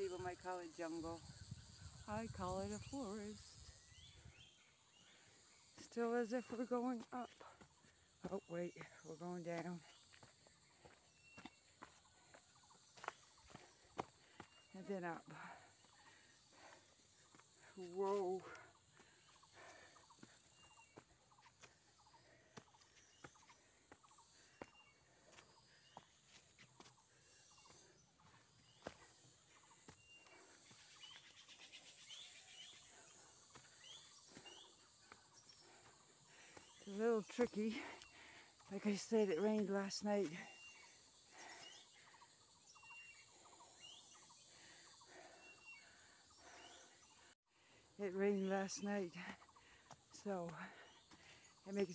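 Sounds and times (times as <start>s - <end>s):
forest birds chirping: 0.0s - 51.9s
footsteps on dirt trail: 4.3s - 51.9s.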